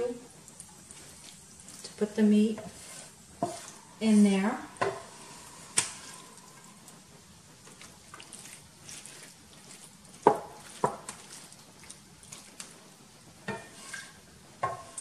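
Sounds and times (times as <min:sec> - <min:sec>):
spoon scraping sauce in pan: 0:00.5 - 0:07.0, 0:07.6 - 0:12.8, 0:13.4 - 0:15.0.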